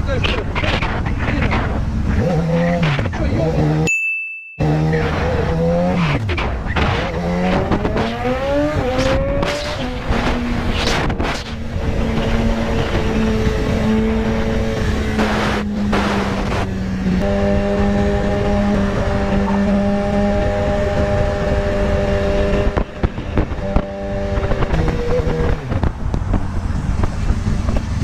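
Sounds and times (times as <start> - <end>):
road and wind noise: 0.0 - 3.9, 4.6 - 28.0
motorcycle engine accelerating: 4.6 - 28.0.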